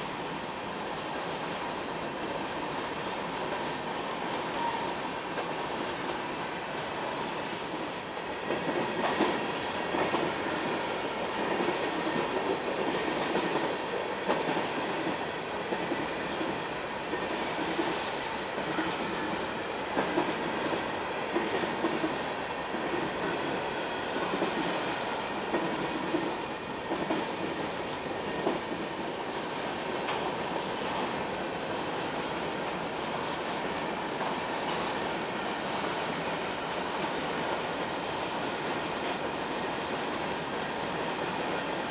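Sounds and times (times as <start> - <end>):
train wheels clicking on rails: 0.0 - 41.9.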